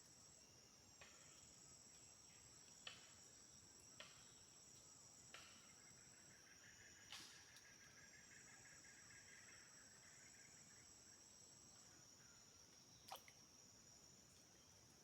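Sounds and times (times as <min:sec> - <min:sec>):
insects chorus: 0:00.1 - 0:15.0.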